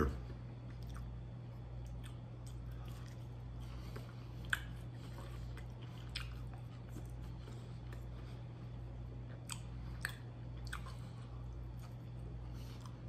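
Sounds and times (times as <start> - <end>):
steady low hum: 0.0 - 13.0
quiet chewing: 0.2 - 13.0.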